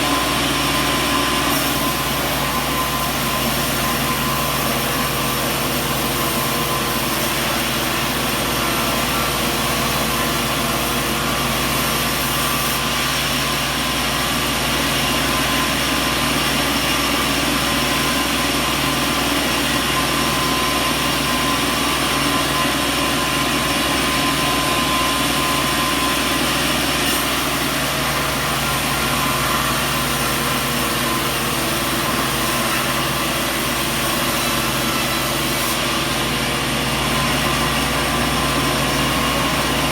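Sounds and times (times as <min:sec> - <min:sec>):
sawmill machinery drone with whine: 0:00.0 - 0:39.9.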